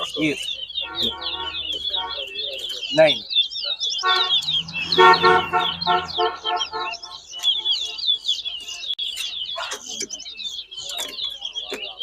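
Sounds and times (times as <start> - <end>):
finches twittering and chirping: 0.0 - 12.0.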